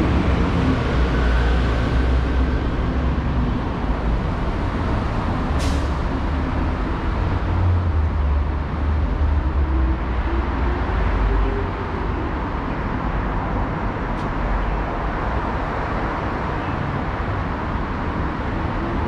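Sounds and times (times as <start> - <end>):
road traffic rumbling: 0.0 - 19.0.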